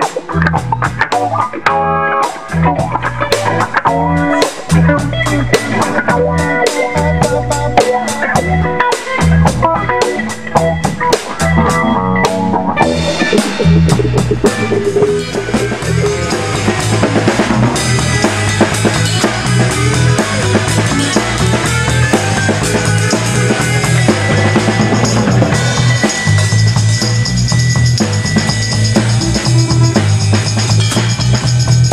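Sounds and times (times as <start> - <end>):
band jamming: 0.0 - 31.9
drum kit snare and cymbals: 0.0 - 31.9
low bass notes: 0.0 - 31.9.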